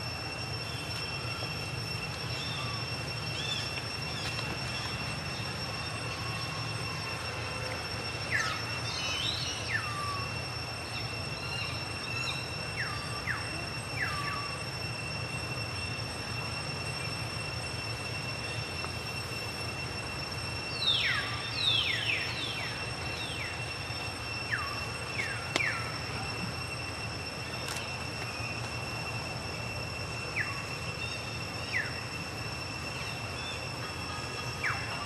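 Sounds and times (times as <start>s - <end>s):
steady high whine: 0.0s - 35.0s.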